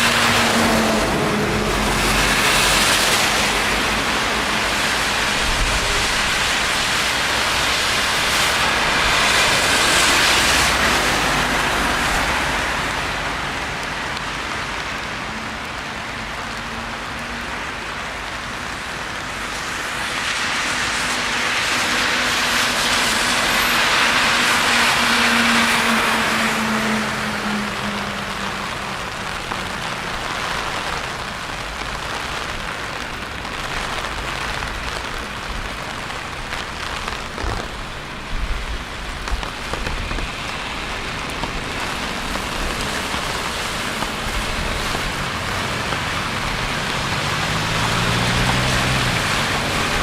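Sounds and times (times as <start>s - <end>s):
tyres hissing on wet street: 0.0s - 50.0s.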